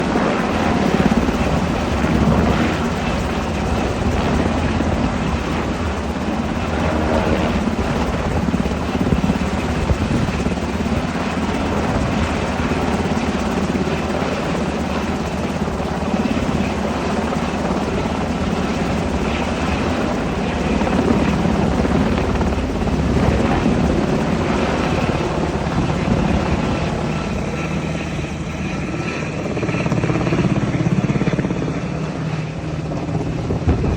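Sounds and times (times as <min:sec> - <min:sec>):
helicopter rotor beat: 0:00.0 - 0:33.9
helicopter turbine engine whine: 0:00.0 - 0:33.9.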